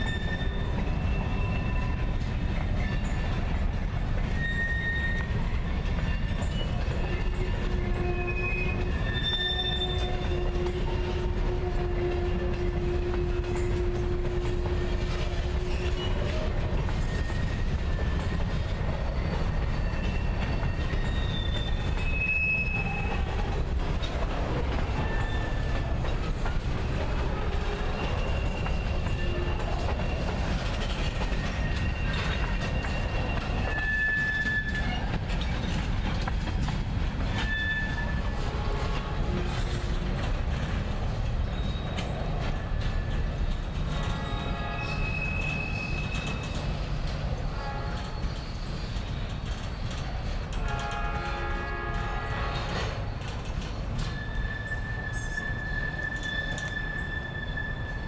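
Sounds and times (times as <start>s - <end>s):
freight train wheels rumbling: 0.0s - 58.0s
wheels squealing: 0.0s - 58.0s.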